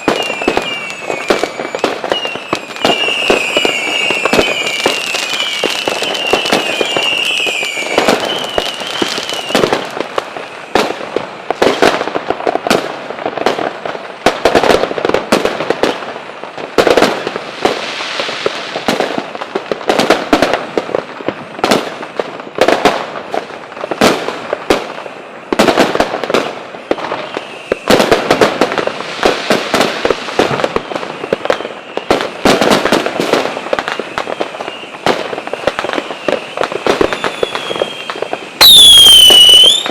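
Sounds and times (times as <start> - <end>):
fireworks banging and crackling: 0.0 - 39.9
rising firework whistle: 0.0 - 39.9.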